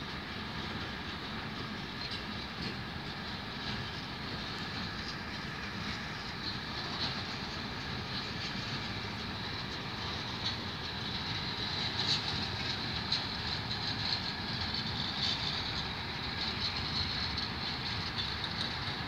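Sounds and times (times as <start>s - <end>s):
train wagons rolling on rails: 0.0s - 19.0s.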